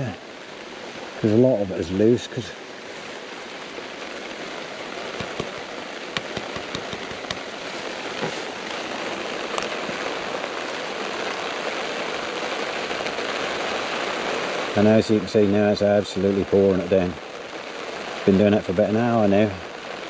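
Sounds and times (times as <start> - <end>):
heavy rain on a lake: 0.0 - 20.0.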